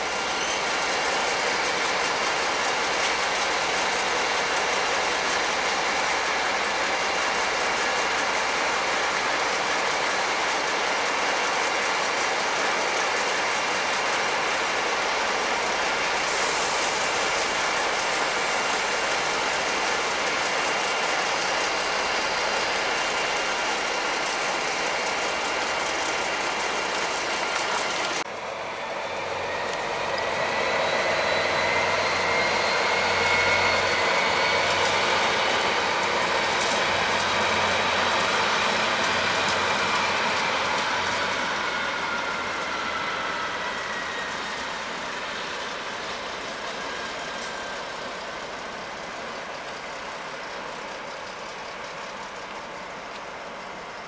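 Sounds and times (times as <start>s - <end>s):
diesel locomotives idling: 0.0s - 54.0s.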